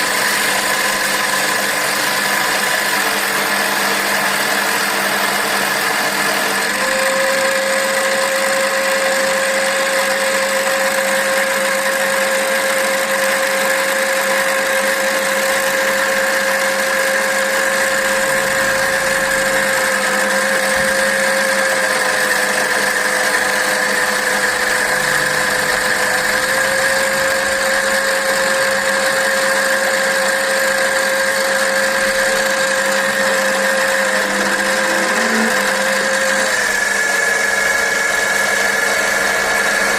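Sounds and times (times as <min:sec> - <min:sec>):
lathe motor whining: 0:00.0 - 0:39.9.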